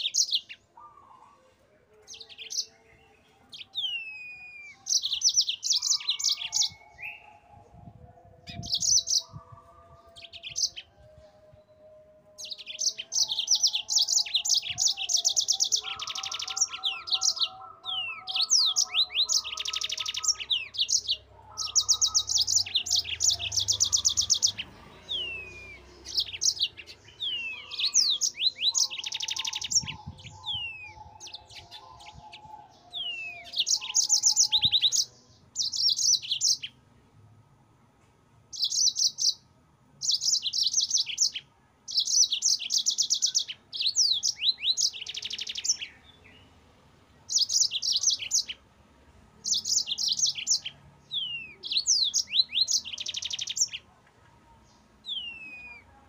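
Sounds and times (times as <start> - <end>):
canary singing trills: 0.0 - 36.8, 38.5 - 46.6, 47.3 - 48.7, 49.4 - 56.0.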